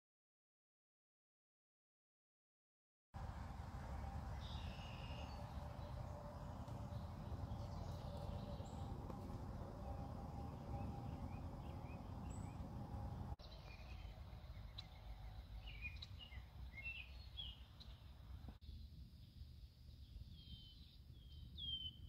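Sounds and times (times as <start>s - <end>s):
low background rumble: 3.2s - 21.5s
birds chirping: 3.2s - 22.0s.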